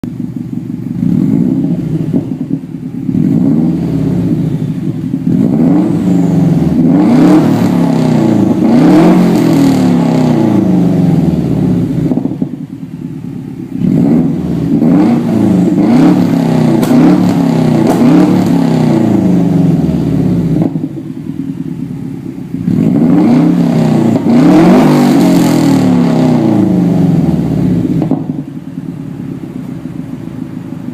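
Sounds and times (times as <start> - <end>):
car engine idling: 0.0 - 30.9
car engine revving: 0.0 - 30.9.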